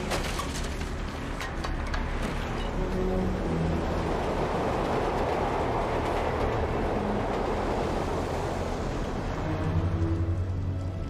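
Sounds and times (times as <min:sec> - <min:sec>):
elevated train passing: 0:00.7 - 0:11.0.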